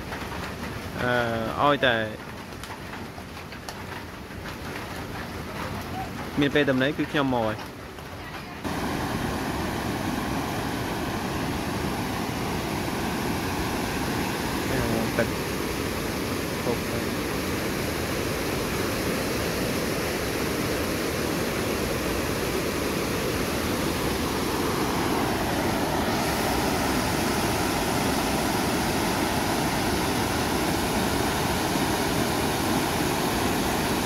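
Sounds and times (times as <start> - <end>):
floodwater rushing over spillway: 0.0 - 3.7, 4.4 - 7.8, 8.4 - 34.0.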